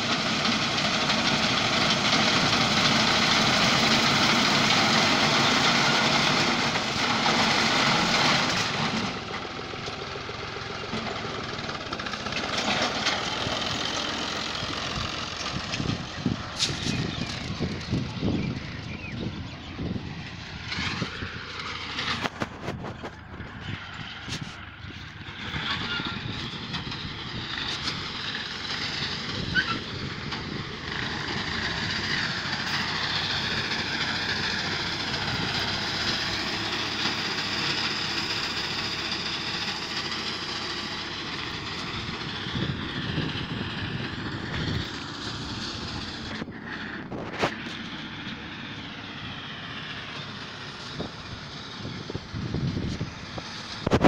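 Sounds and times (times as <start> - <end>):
distant tractor engine: 0.0 - 54.0.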